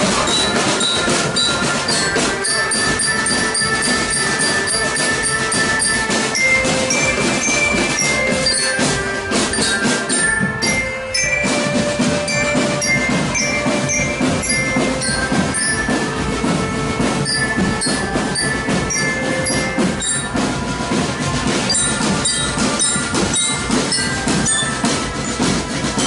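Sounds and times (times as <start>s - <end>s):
held melody notes: 0.0s - 26.0s
high mallet bell notes: 0.0s - 26.0s
snare and bass drum beats: 0.0s - 26.0s.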